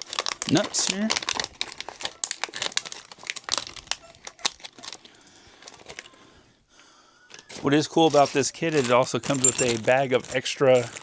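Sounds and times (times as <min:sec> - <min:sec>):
bolts and nuts clicking: 0:00.0 - 0:06.1, 0:07.3 - 0:11.0
plastic bag crinkling: 0:00.0 - 0:06.4, 0:07.3 - 0:11.0.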